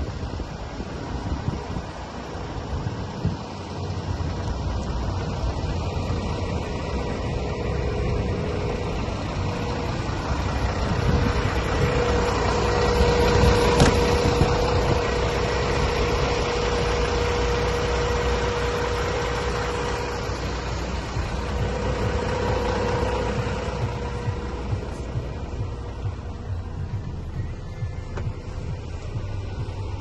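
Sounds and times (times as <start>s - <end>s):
steady whine: 0.0s - 30.0s
truck diesel engine idling: 0.0s - 30.0s.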